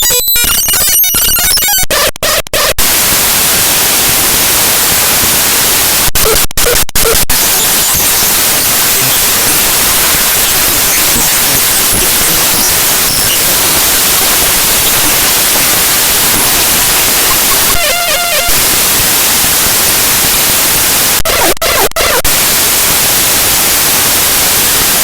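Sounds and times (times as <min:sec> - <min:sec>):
harsh static hiss: 0:02.8 - 0:25.0.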